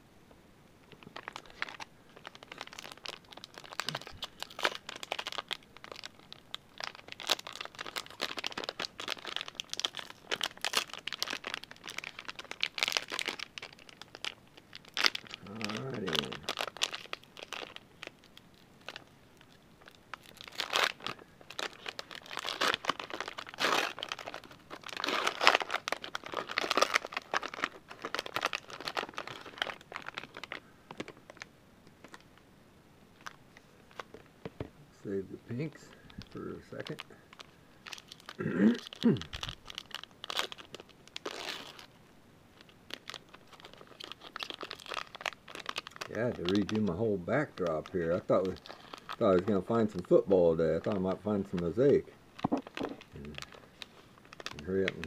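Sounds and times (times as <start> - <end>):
foil wrapper crinkling and tearing: 0.9 - 32.3, 35.9 - 55.0.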